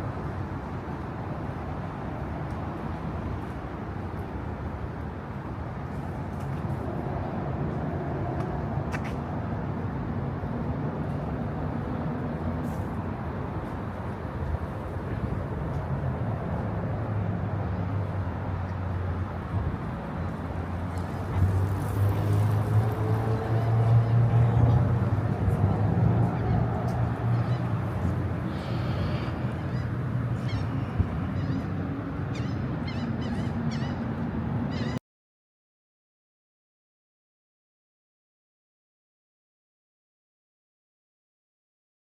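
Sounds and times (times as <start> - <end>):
vehicle engine rumble: 0.0 - 35.0.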